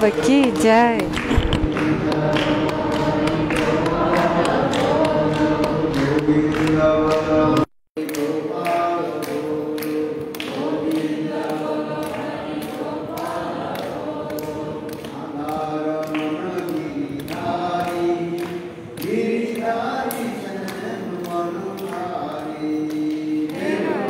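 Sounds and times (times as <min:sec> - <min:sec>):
group singing a chant: 0:00.0 - 0:24.0.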